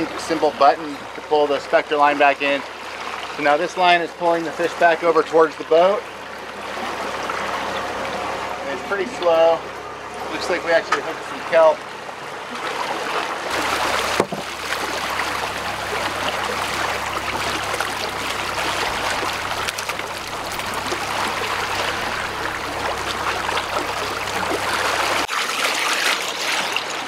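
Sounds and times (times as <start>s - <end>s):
boat engine hum: 0.0s - 27.0s
water rushing along hull: 0.0s - 27.0s.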